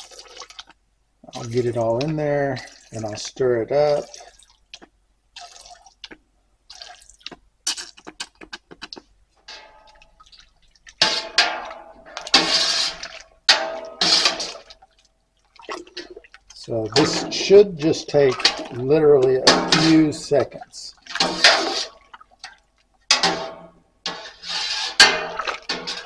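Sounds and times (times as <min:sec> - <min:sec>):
thick mash sloshing when stirred: 0:00.0 - 0:04.8, 0:06.7 - 0:26.0.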